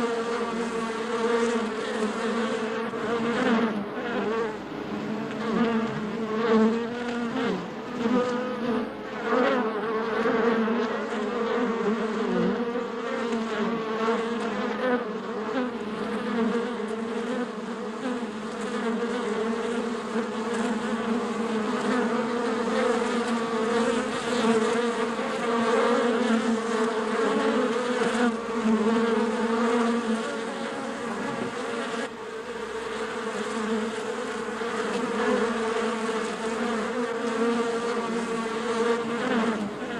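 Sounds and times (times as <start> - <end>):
bees buzzing: 0.0 - 39.9.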